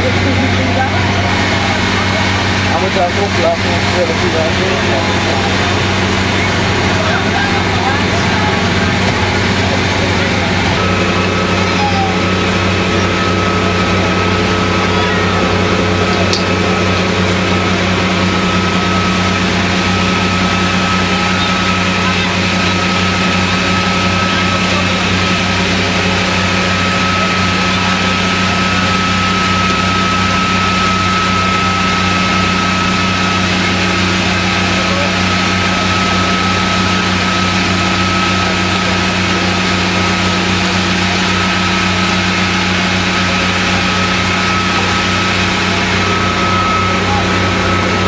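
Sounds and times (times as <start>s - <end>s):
fire engine hum: 0.0s - 48.0s
pump high whine: 0.0s - 48.0s.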